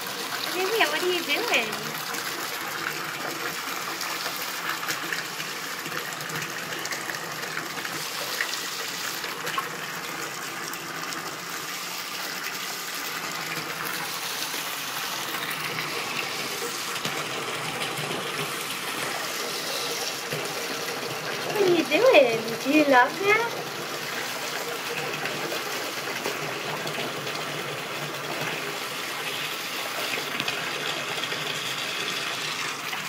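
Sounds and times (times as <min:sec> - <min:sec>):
water pouring into a bathtub: 0:00.0 - 0:33.0.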